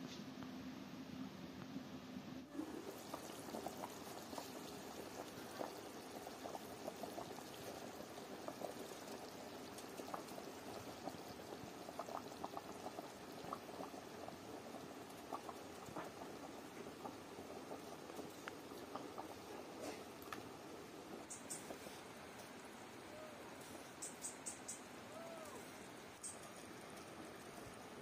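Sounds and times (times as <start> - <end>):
broth bubbling at a boil: 2.5 - 28.0.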